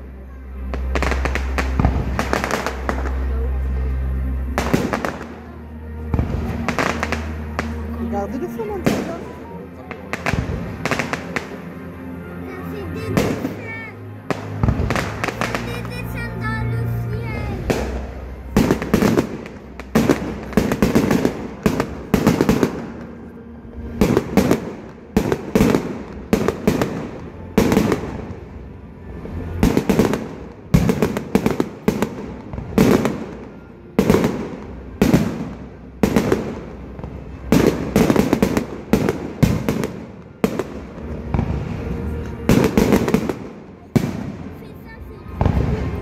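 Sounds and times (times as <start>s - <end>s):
fireworks launching and bursting: 0.6s - 3.5s, 4.5s - 5.4s, 6.0s - 11.7s, 12.8s - 23.2s, 23.9s - 28.7s, 29.4s - 46.0s.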